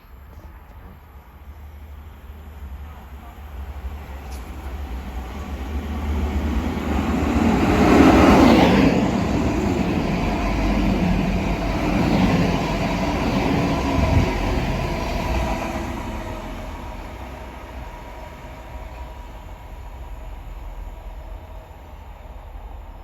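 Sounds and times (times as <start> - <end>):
train passing through station: 0.0 - 23.0.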